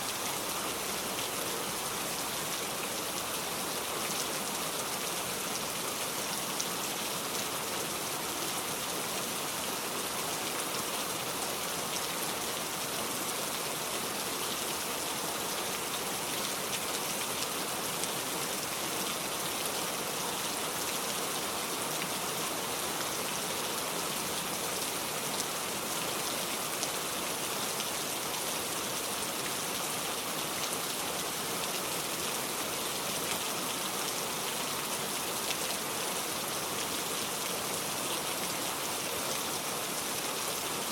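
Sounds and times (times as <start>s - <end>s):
steady rain with drop ticks: 0.0s - 40.9s.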